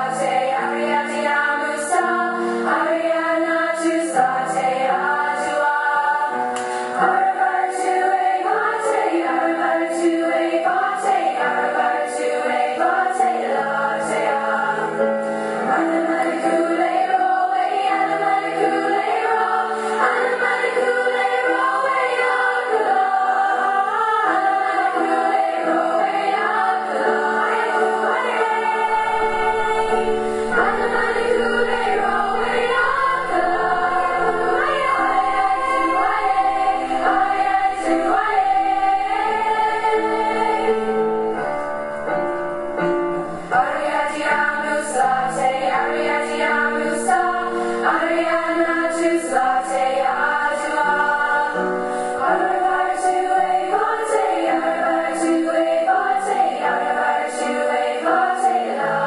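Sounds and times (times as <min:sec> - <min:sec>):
choir singing held chords: 0:00.0 - 0:59.0.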